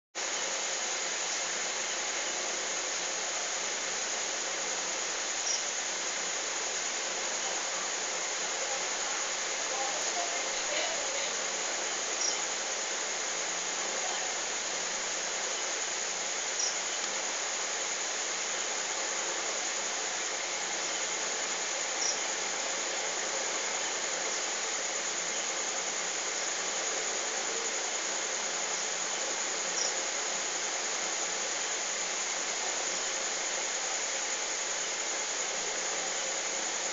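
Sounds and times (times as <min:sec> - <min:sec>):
steady hiss: 0:00.2 - 0:36.9.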